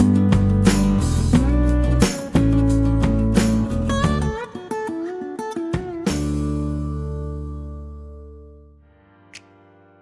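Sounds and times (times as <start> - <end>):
plucked guitar music: 0.0 - 8.7.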